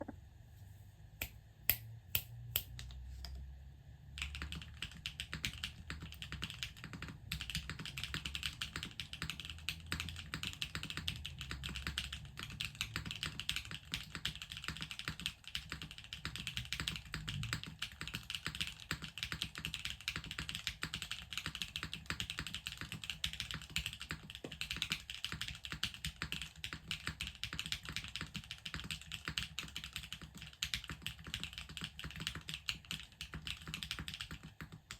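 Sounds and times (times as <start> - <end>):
typing on mechanical keyboard: 4.2 - 34.9.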